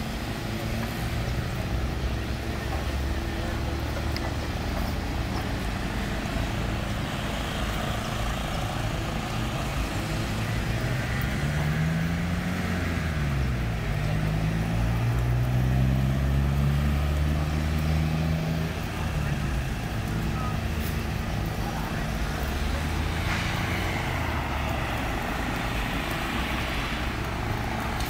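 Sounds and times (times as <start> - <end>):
low traffic rumble: 0.0 - 28.0.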